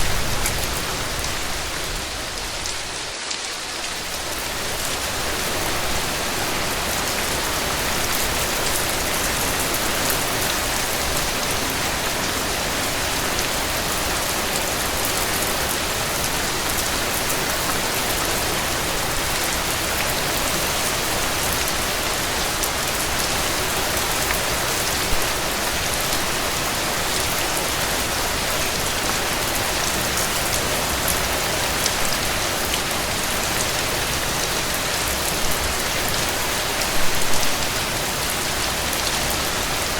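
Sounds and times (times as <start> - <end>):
heavy rain on a porch: 0.0 - 39.9.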